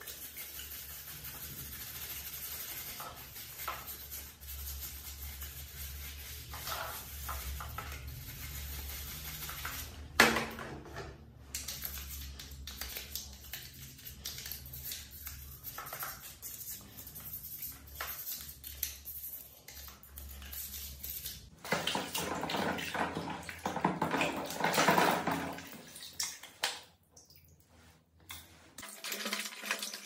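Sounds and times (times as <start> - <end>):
brush scrubbing plastic: 0.0 - 10.2, 11.4 - 26.0.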